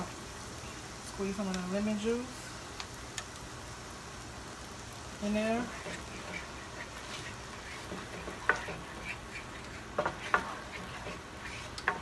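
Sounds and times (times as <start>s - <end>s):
butter sizzling in a pan: 0.0s - 12.0s.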